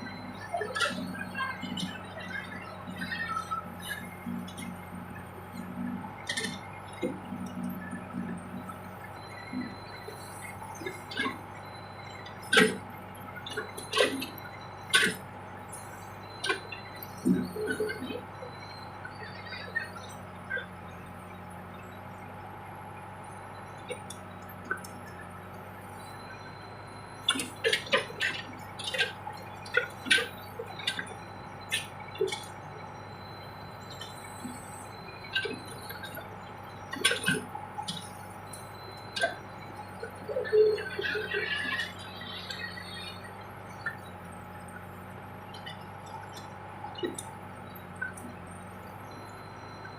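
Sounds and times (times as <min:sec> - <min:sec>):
backhoe engine running: 0:00.0 - 0:49.9.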